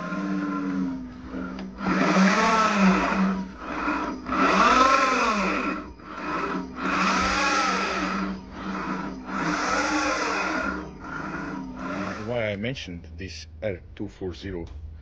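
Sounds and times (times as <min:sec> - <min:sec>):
electric motor whine: 0:00.0 - 0:12.6
grinding milling noise: 0:00.0 - 0:13.5.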